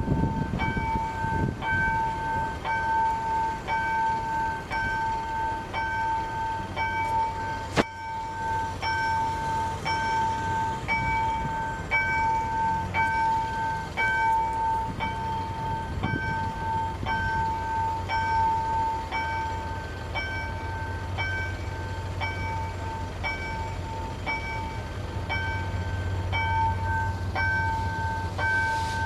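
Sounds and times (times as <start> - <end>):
warning bell ringing: 0.0 - 29.0.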